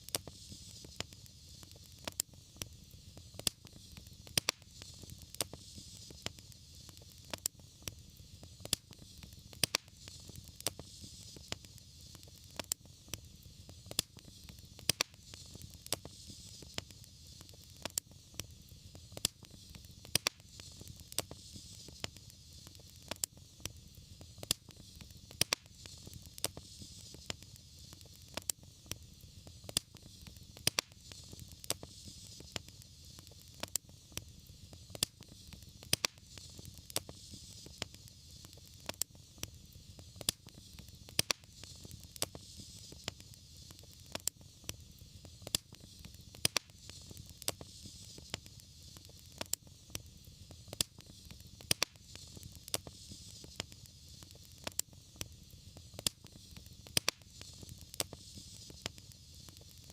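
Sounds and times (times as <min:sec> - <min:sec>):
soft hiss: 0:00.0 - 0:59.9
wood fire crackling and popping: 0:00.0 - 0:59.9.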